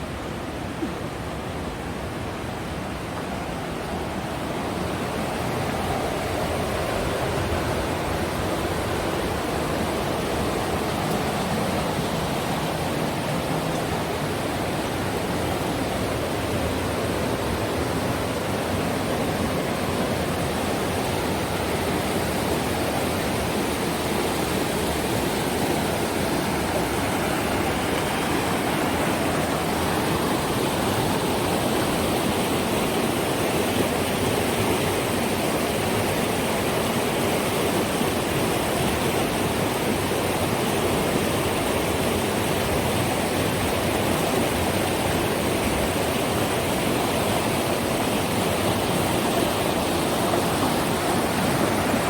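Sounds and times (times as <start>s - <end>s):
river water rushing over rapids: 0.0s - 52.0s.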